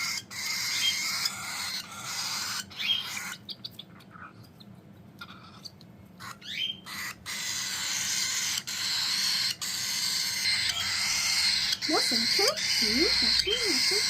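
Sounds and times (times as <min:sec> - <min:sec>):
cockatiel chirp: 0:00.0 - 0:14.0.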